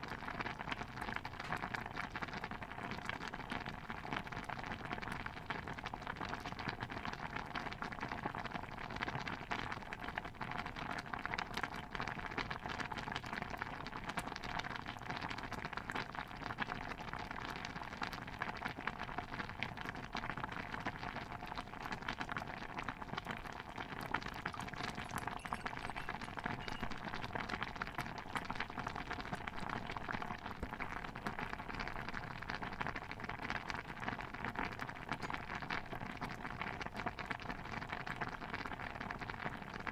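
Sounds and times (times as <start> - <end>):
tiny pops and crackles: 0.1 - 39.9.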